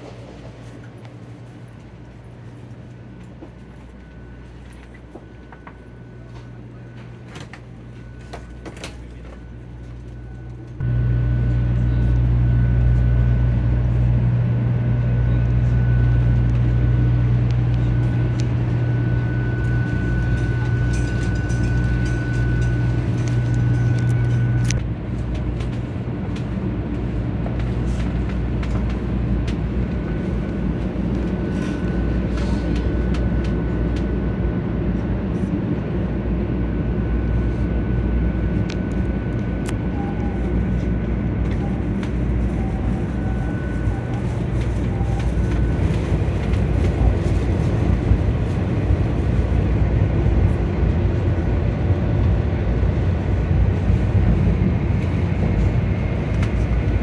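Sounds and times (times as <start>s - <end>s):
train interior drone: 0.0s - 57.0s.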